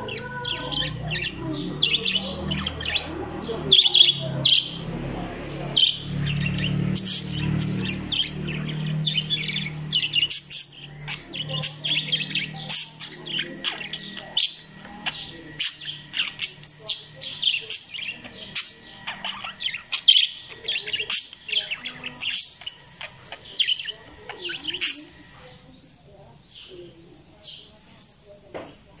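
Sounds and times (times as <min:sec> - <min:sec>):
parakeets chirping: 0:00.0 - 0:29.0.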